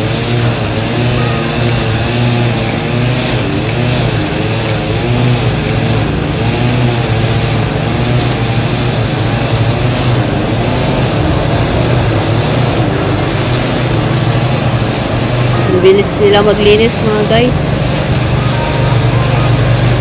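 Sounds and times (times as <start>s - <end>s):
brush cutter cutting grass: 0.0s - 20.0s.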